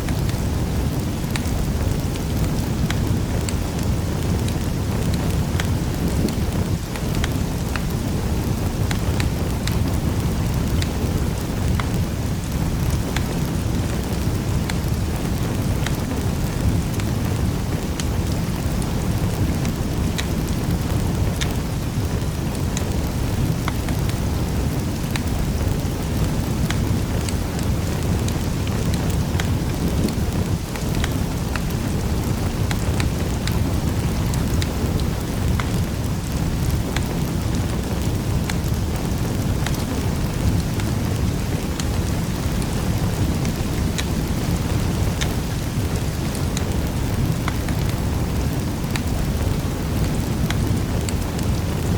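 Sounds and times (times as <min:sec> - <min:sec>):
fire crackling in a fireplace: 0:00.0 - 0:51.9.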